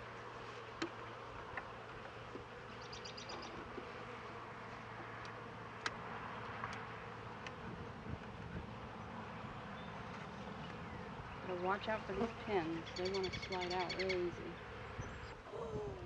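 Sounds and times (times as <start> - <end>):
bees buzzing: 0.0 - 15.2.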